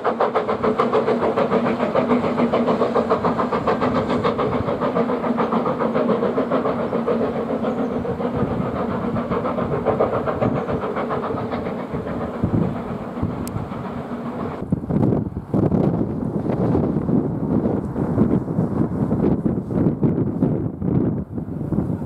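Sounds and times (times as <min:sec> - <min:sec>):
steam locomotive exhaust beats: 0:00.0 - 0:22.0.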